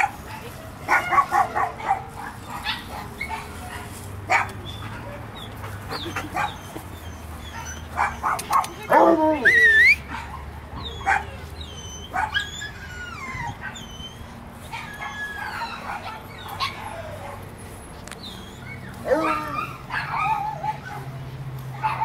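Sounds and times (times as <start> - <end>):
dogs yipping and whimpering: 0.0 - 22.0.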